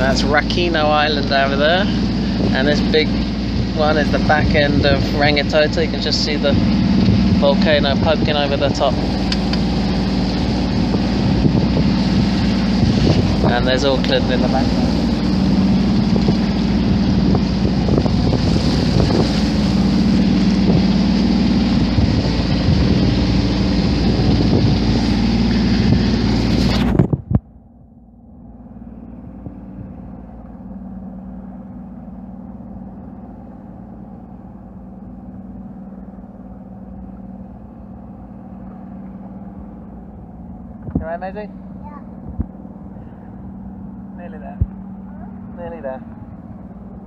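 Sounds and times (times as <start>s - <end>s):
outboard motor running: 0.0s - 47.0s
wind buffeting microphone: 0.0s - 47.0s.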